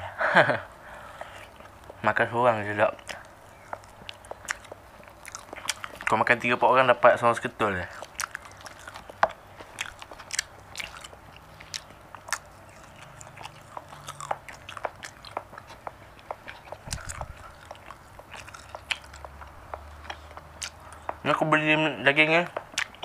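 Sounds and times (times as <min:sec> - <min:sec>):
person chewing meat: 0:00.9 - 0:02.0, 0:02.8 - 0:06.5, 0:07.3 - 0:21.6, 0:22.4 - 0:23.0.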